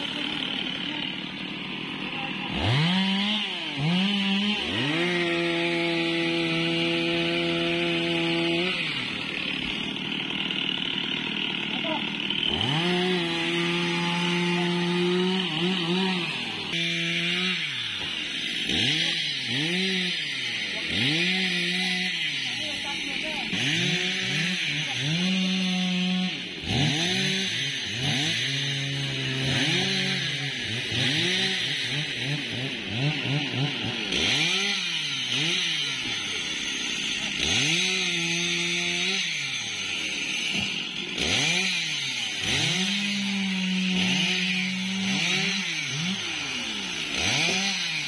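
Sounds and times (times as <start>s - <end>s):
chainsaws revving: 0.0s - 48.0s.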